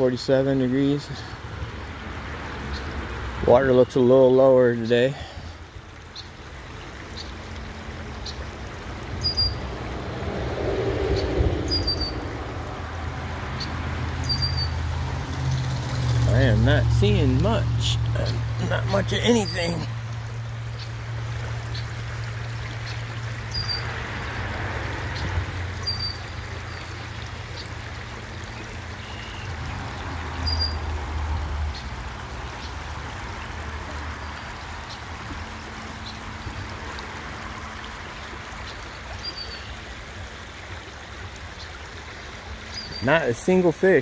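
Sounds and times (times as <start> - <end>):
creek water running: 0.0 - 44.0.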